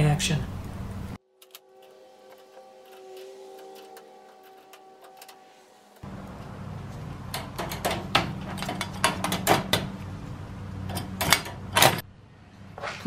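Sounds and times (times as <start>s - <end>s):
steady low hum: 2.0s - 13.0s.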